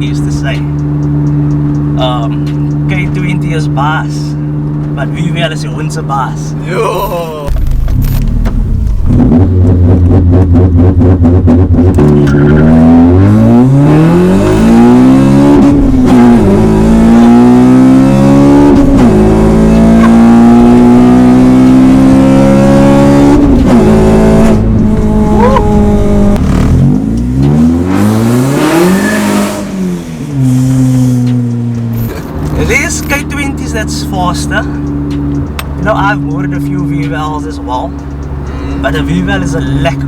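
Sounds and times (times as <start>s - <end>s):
car engine accelerating hard: 0.0s - 40.0s.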